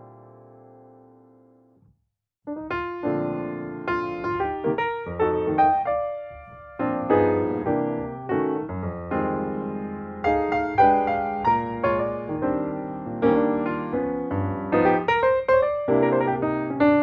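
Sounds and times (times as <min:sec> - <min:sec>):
piano music: 0:00.0 - 0:01.6, 0:02.5 - 0:17.0.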